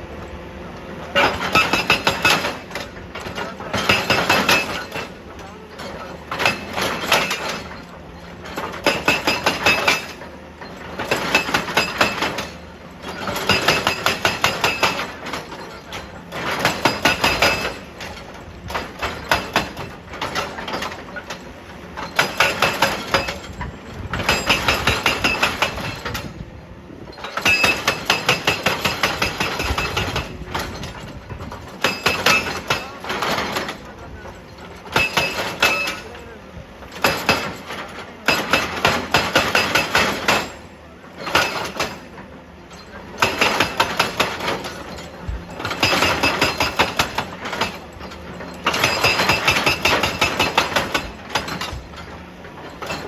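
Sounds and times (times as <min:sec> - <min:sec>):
hydraulic breaker hammer pounding rock: 0:00.8 - 0:53.0.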